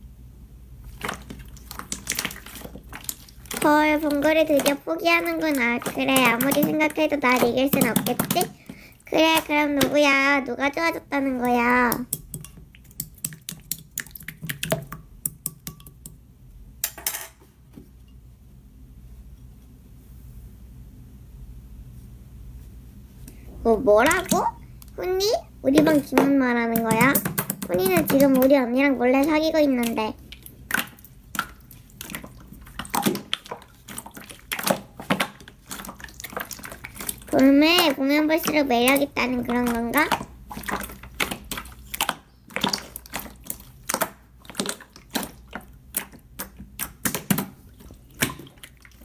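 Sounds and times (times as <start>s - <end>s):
slime stirred with plastic spoon: 0.7s - 16.2s, 22.6s - 49.0s.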